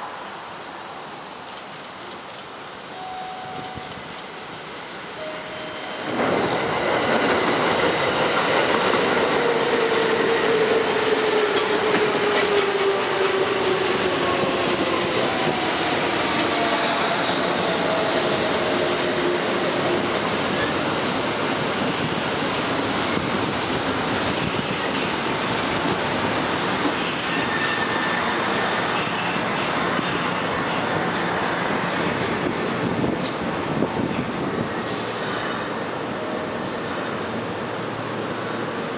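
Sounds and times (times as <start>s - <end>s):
train wheels rumbling on rails: 3.5s - 38.9s.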